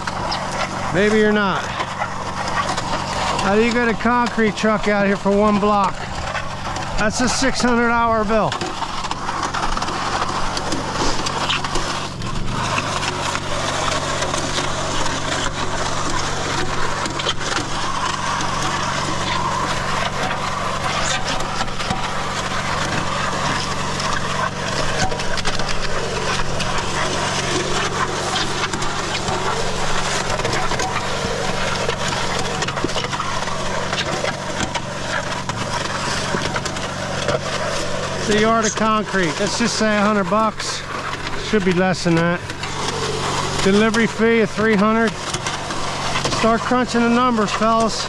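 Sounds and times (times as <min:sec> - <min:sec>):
cement mixer engine running: 0:00.0 - 0:48.0
gritty crackles of churning concrete: 0:00.0 - 0:48.0.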